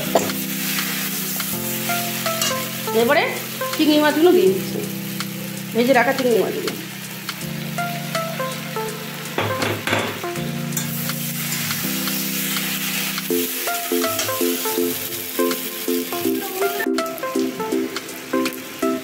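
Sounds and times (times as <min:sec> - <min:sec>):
background music with rhythmic beat: 0:00.0 - 0:19.0
food sizzling in oil: 0:00.0 - 0:19.0.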